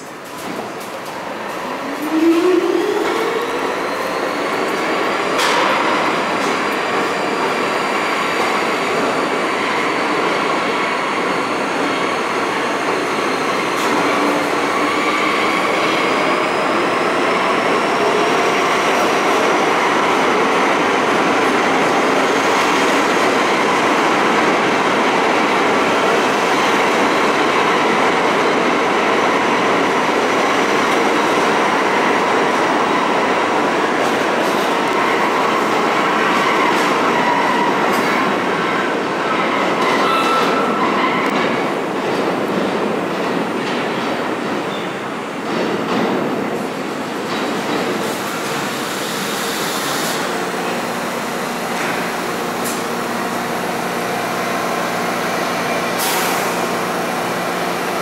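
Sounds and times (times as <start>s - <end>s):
subway train wheels on rails: 0.0s - 58.0s.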